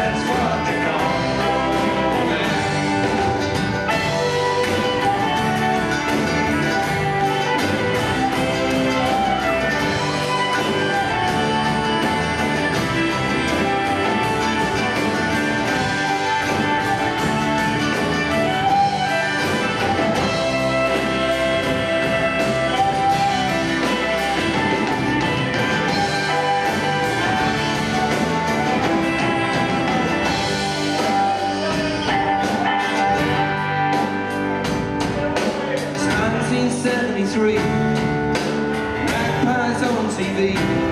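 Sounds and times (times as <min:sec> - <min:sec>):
fiddle melody: 0:00.0 - 0:37.5
electric bass: 0:00.0 - 0:40.9
strummed acoustic guitar: 0:00.0 - 0:40.9.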